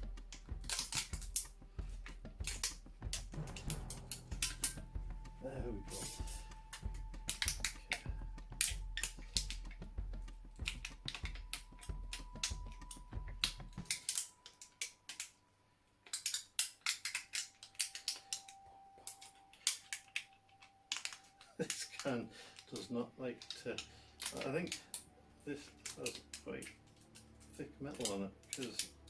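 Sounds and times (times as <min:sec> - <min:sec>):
tin metal crinkling clicks: 0:00.0 - 0:15.4, 0:16.0 - 0:29.0.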